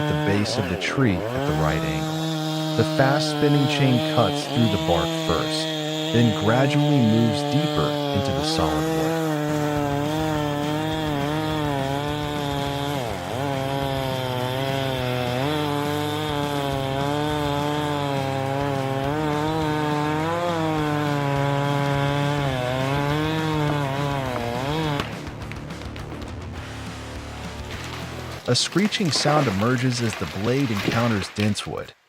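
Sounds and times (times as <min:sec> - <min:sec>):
chainsaw cutting into tree trunk: 0:00.0 - 0:31.7.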